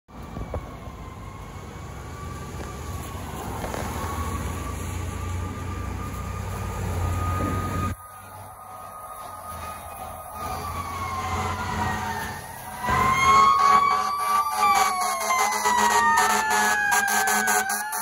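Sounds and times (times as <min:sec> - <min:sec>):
distant fire engine siren: 0:00.1 - 0:18.0.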